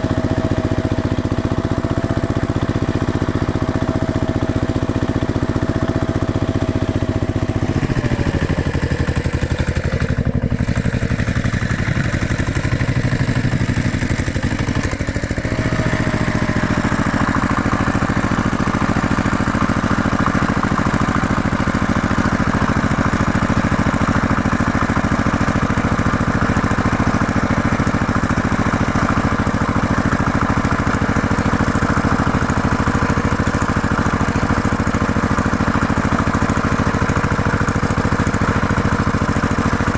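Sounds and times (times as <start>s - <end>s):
construction machine engine running: 0.0s - 39.9s.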